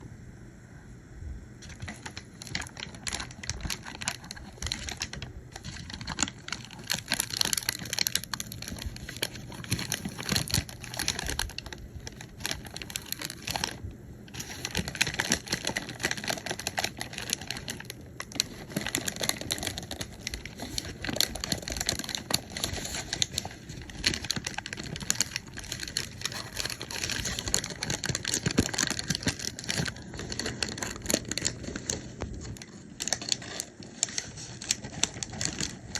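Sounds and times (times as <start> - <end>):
paper bag crinkling: 1.6 - 35.9.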